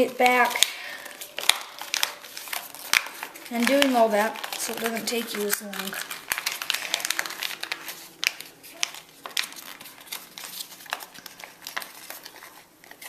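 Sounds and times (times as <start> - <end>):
stiff paper crinkling: 0.0 - 13.0.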